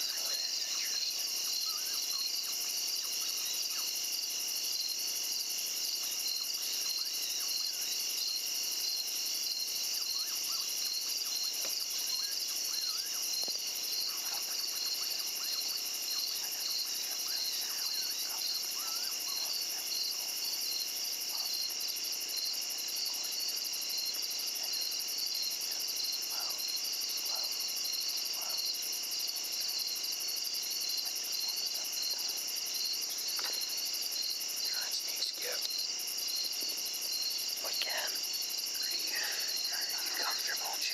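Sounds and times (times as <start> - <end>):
crickets and insects trilling: 0.0 - 40.9.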